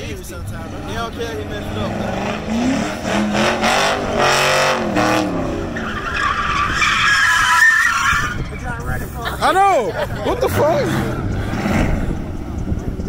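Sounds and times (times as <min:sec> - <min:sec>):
car engine revving: 0:00.0 - 0:13.0
tires squealing on pavement: 0:00.6 - 0:12.6.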